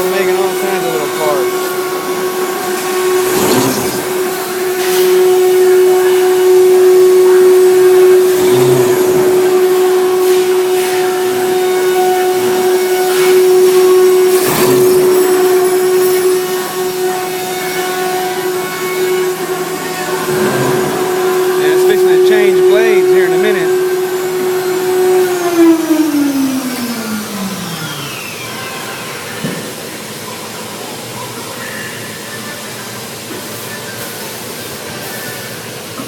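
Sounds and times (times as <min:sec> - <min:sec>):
router spindle whine: 0:00.0 - 0:30.4.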